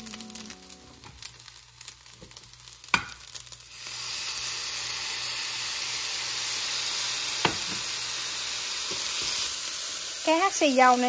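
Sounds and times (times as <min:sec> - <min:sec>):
rice sizzling in frying pan: 0:00.0 - 0:11.0.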